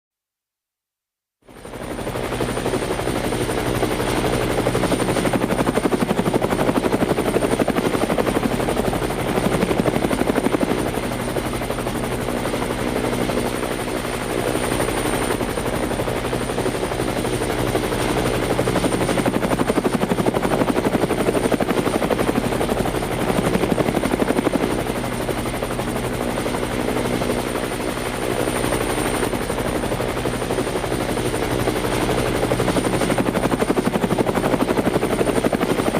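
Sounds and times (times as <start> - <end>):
helicopter engine drone: 1.5 - 35.9
helicopter rotor blades chopping: 1.5 - 35.9.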